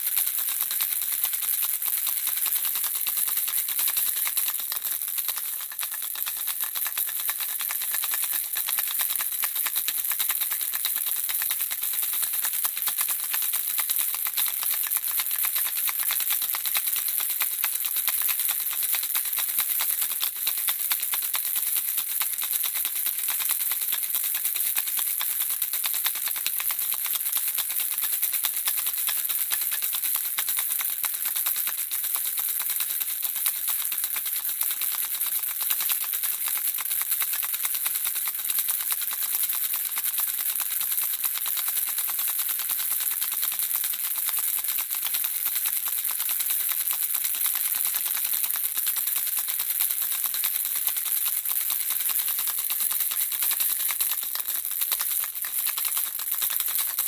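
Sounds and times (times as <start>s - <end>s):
baby rattle shaking: 0.0s - 57.0s.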